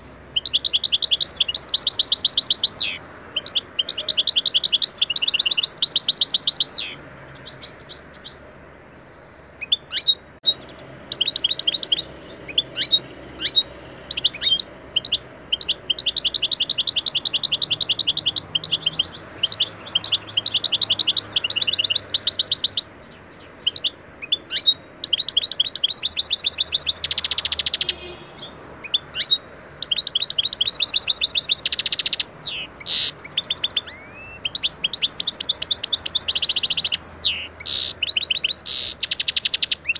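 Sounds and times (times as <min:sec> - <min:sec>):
goldfinch singing: 0:00.0 - 0:08.4, 0:09.2 - 0:39.9.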